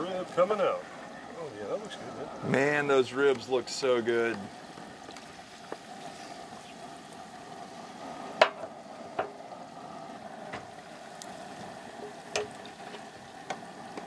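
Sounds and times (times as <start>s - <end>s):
ribs deep-frying in hot oil: 0.0s - 14.0s.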